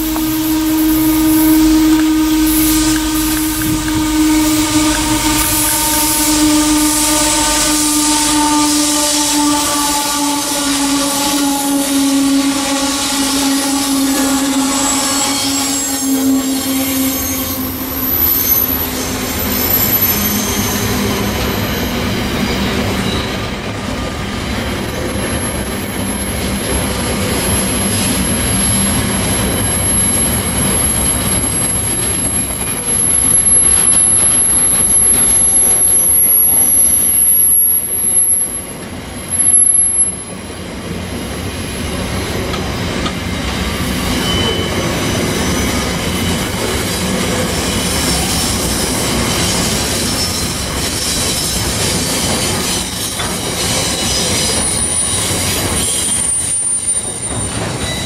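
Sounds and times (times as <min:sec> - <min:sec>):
high thin wheel squeal: 0:00.0 - 0:23.5, 0:27.4 - 0:38.7, 0:43.0 - 0:58.0
train wheels rumbling on rails: 0:00.0 - 0:58.0.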